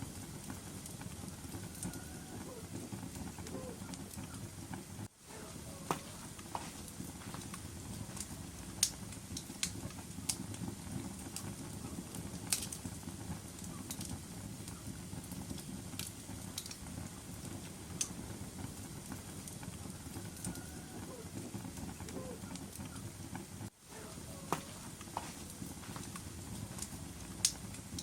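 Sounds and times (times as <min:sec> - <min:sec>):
fire crackling and popping: 0:00.0 - 0:28.0
fire flames rumbling: 0:00.0 - 0:28.0.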